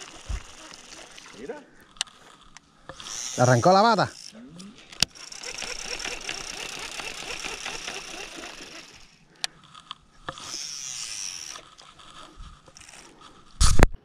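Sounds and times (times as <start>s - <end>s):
fishing reel whirring: 0.0s - 13.8s.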